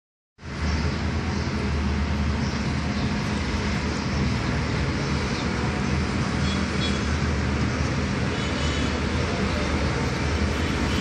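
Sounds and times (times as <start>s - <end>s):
traffic rumble: 0.4s - 11.0s.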